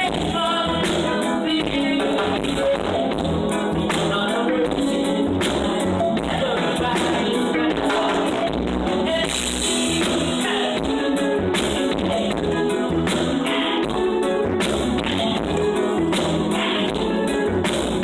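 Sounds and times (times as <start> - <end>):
live band with singing: 0.0 - 18.0.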